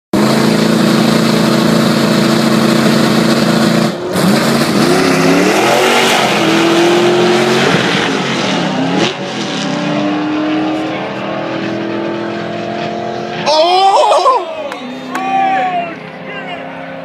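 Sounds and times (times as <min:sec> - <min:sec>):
truck engine revving and accelerating: 0:00.2 - 0:15.1.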